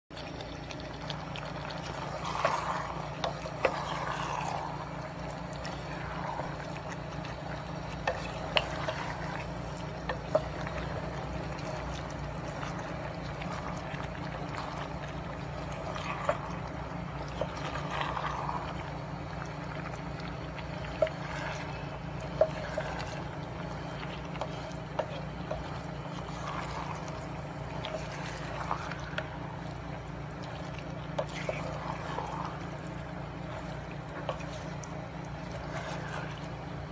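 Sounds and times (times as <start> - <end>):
low steady hum: 0.1 - 36.9
sauce bubbling in a pan: 0.1 - 36.9.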